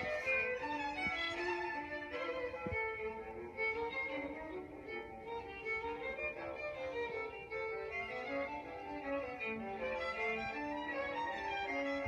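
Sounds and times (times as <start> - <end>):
violin melody: 0.0 - 12.0.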